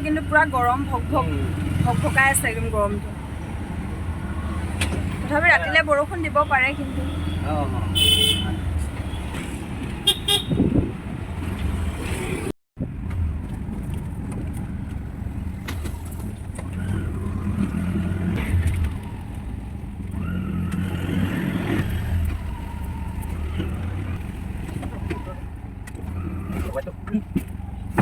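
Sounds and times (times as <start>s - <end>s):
auto-rickshaw engine running: 0.0s - 28.0s
road noise: 0.0s - 28.0s.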